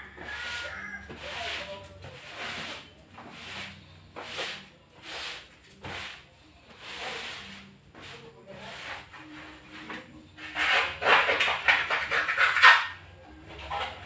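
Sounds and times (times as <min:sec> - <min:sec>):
scrubbing on ceramic floor tiles: 0:00.0 - 0:13.0.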